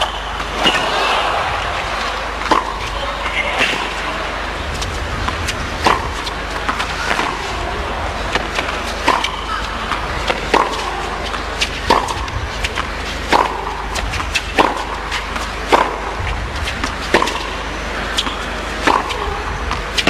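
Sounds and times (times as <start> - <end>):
racquets hitting tennis ball: 0.0 - 20.0.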